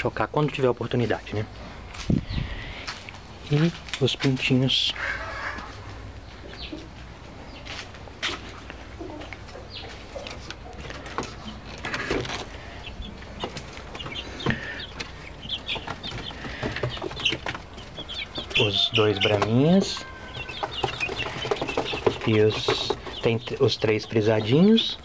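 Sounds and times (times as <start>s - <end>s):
chickens clucking: 0.0s - 25.0s
chicks peeping: 0.0s - 25.0s.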